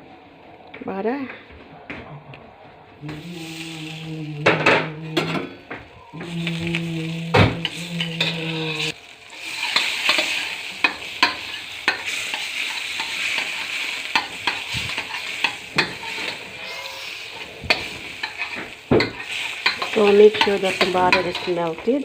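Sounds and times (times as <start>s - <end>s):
butter sizzling in a wok: 3.0s - 22.0s
utensil scraping a pan: 3.0s - 22.0s.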